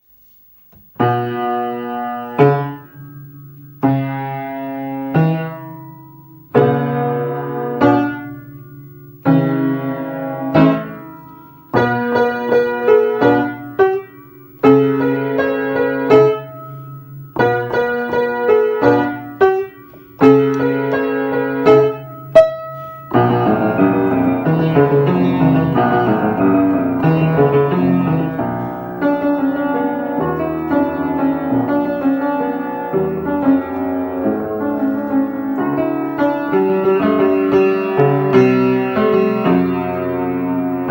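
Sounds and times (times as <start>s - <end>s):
piano chords: 0.9s - 40.9s.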